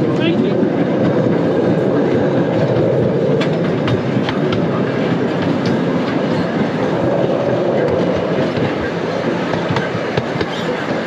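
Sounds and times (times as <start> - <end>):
train cars rumbling on track: 0.0 - 11.0.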